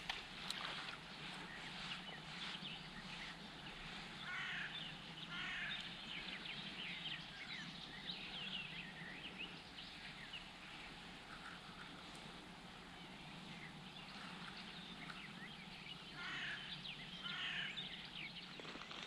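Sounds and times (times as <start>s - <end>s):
birds chirping: 0.0s - 19.0s
harsh bird calls: 1.1s - 12.1s, 13.0s - 19.0s.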